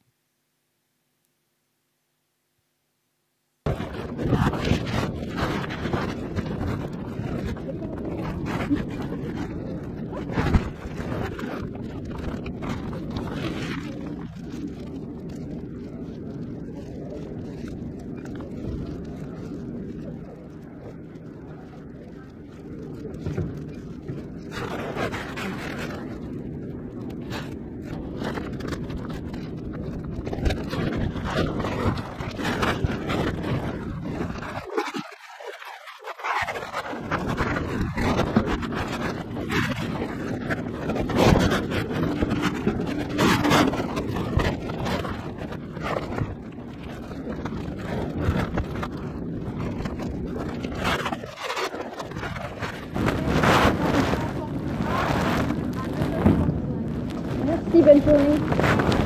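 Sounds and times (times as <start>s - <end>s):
fabric rubbing on microphone: 3.6s - 59.0s.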